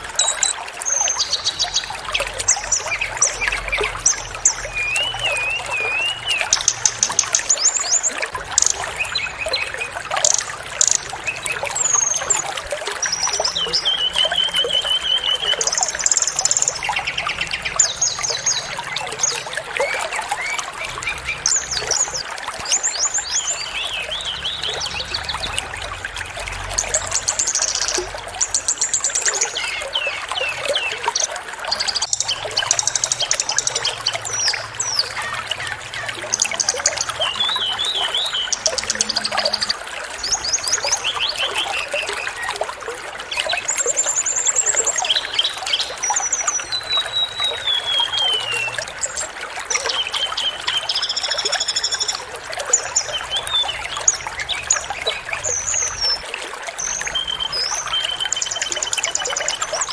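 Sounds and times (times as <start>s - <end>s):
running water: 0.0s - 59.9s
songbirds chirping and trilling: 0.0s - 59.9s.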